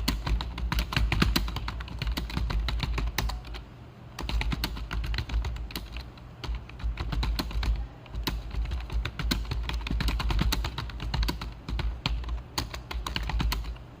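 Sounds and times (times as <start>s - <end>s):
fast typing on keyboard: 0.0s - 3.6s, 4.2s - 13.9s
steady low hum: 0.0s - 14.0s.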